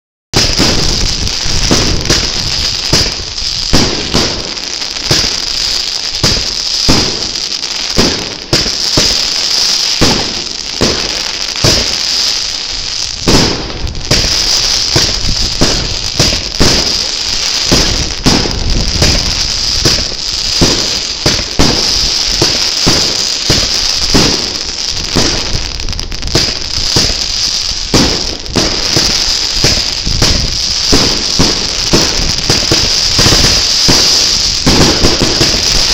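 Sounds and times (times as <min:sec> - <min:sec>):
firework bangs: 0:00.3 - 0:35.9
firework crackling and fizzing: 0:00.4 - 0:35.9.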